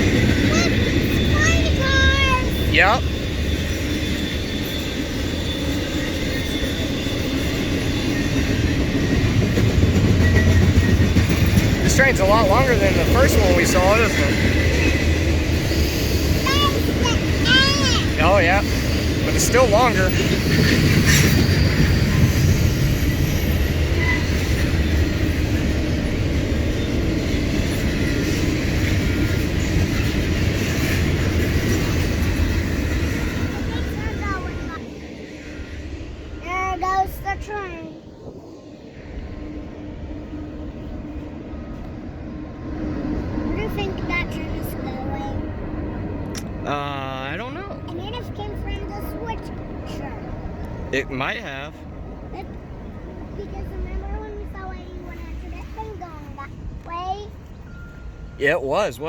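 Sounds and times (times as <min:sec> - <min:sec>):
freight train cars rolling past: 0:00.0 - 0:59.0.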